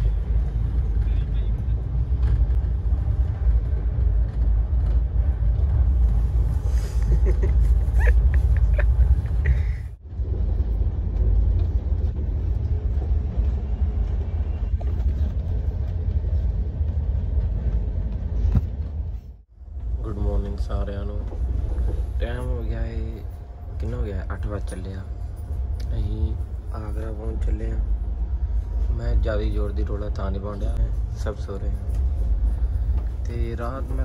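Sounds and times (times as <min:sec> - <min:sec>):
low train rumble: 0:00.0 - 0:34.0.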